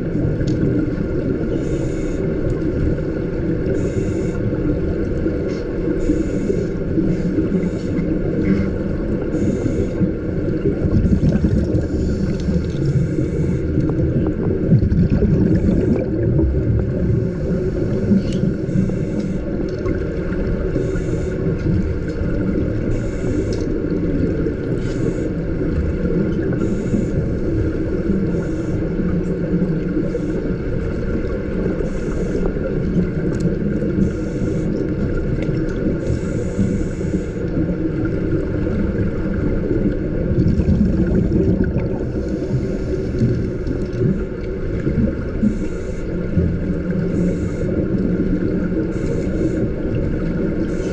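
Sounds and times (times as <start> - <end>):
hissing exhaust bubbles: 0.0 - 50.9.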